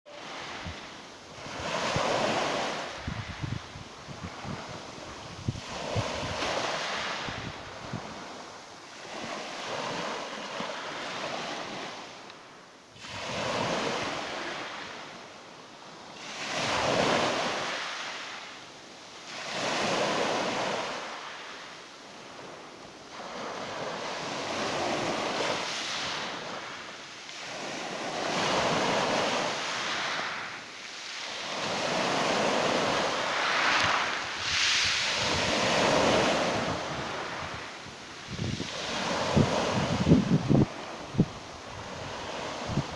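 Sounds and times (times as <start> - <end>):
waves washing up pebble beach: 0.1 - 12.2, 13.0 - 15.2, 15.8 - 42.9.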